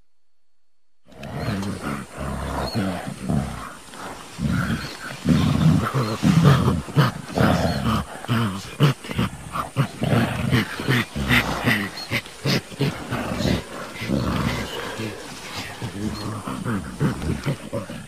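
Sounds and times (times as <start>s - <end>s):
gorilla roars and grunts: 1.1s - 18.0s.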